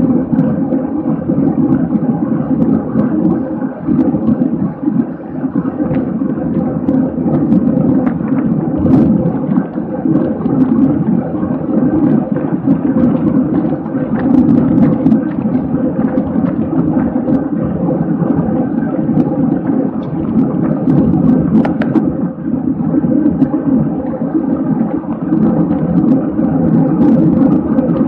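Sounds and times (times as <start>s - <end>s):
faint steady hum: 0.0s - 28.0s
wind rushing over microphone: 0.0s - 28.0s.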